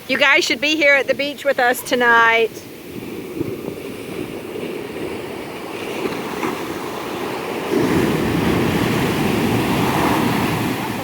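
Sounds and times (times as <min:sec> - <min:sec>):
booming waves: 0:00.0 - 0:11.0
ocean surf breaking: 0:00.0 - 0:11.0.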